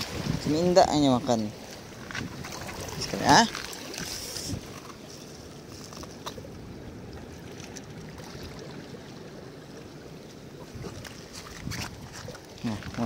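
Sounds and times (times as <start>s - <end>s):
sea water washing against rocks: 0.0s - 13.0s.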